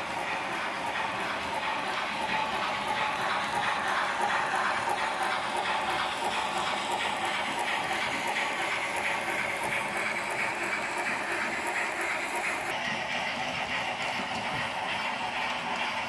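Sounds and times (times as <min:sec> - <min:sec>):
model train wheels rattling: 0:00.0 - 0:16.0.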